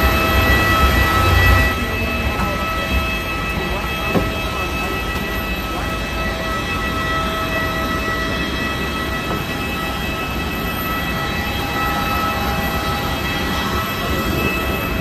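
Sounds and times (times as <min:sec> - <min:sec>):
jet engine rumble and whine: 0:00.0 - 0:15.0.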